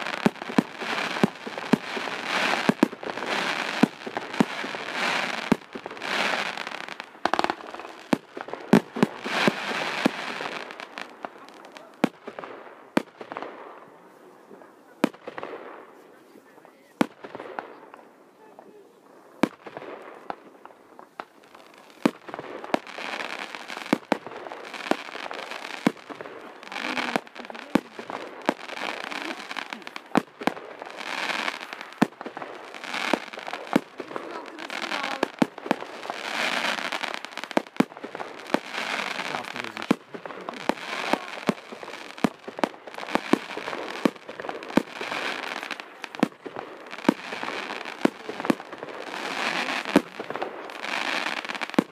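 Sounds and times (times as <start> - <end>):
fireworks hissing and crackling: 0.0 - 51.9.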